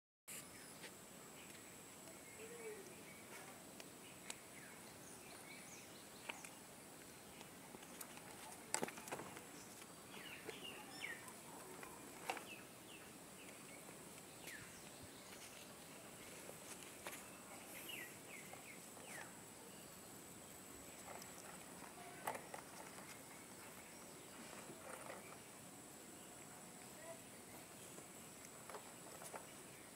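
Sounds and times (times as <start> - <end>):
steady high hiss: 0.3 - 29.9.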